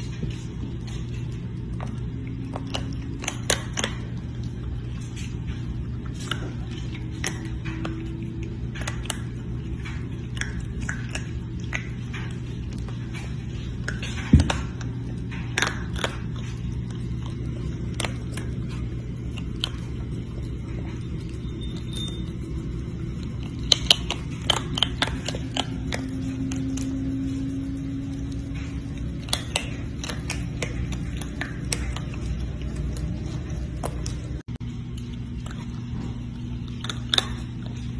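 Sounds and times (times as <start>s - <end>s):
raccoon chewing crunchy snacks: 0.0s - 37.9s.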